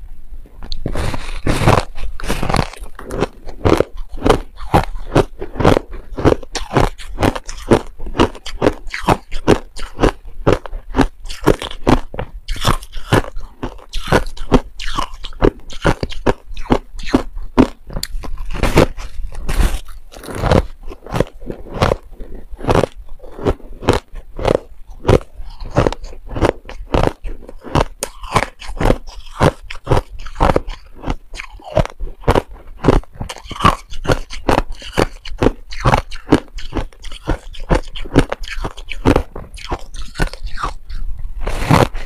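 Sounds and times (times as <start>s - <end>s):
person crunching ice: 0.7s - 42.0s.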